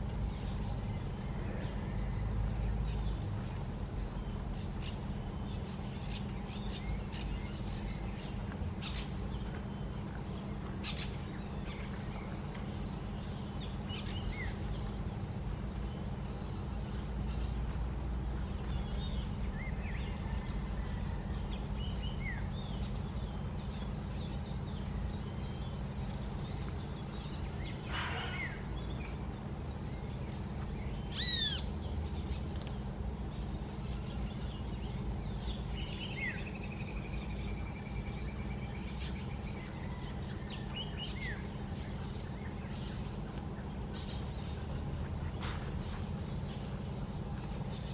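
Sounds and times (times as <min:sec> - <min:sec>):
birds chirping and whistling: 0:00.0 - 0:47.9
downward-sweeping bird calls: 0:00.0 - 0:47.9
low background rumble: 0:00.0 - 0:47.9.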